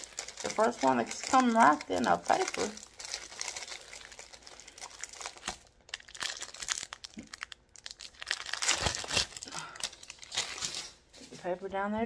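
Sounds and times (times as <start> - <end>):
canvas and paper crinkling: 0.0 - 11.7.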